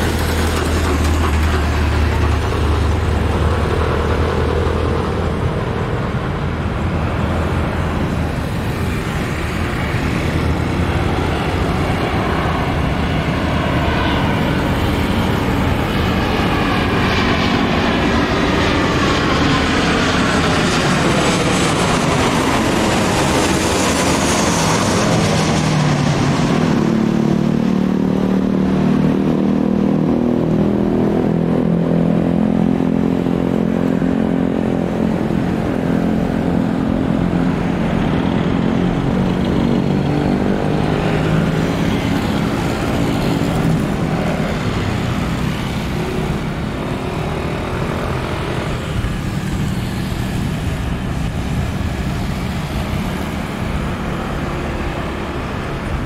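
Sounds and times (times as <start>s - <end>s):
jet airliner passing overhead: 0.0s - 56.0s
low jet engine drone: 0.0s - 56.0s.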